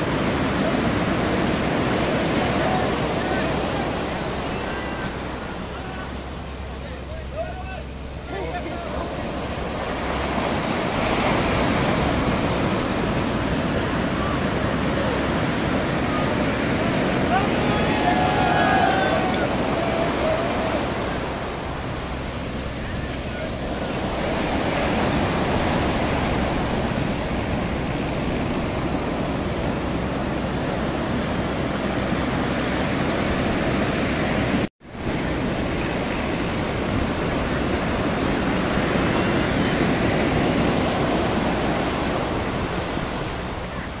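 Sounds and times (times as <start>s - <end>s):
waves breaking on beach: 0.0s - 44.0s.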